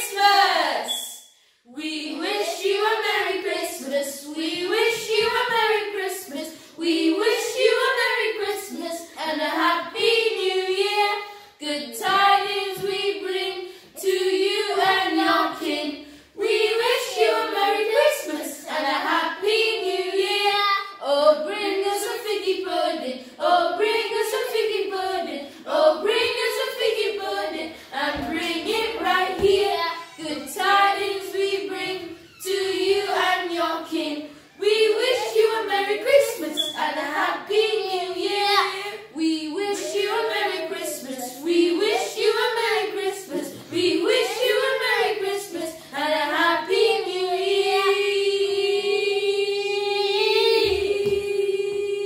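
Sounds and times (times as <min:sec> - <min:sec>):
children singing: 0:00.0 - 0:01.1, 0:01.7 - 0:52.0.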